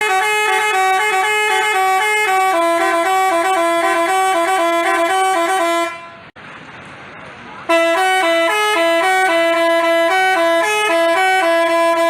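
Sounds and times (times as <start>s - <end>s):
multi-tone horn melody: 0.0s - 6.3s, 7.7s - 12.0s.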